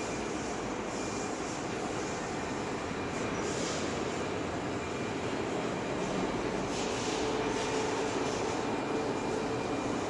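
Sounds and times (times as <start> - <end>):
cnc router running: 0.0 - 10.0
faint steady whine: 0.0 - 10.0.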